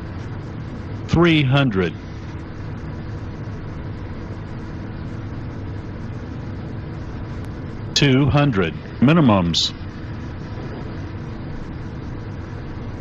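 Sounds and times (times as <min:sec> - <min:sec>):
faint steady tones: 0:00.0 - 0:13.0
jet engines humming: 0:00.0 - 0:13.0.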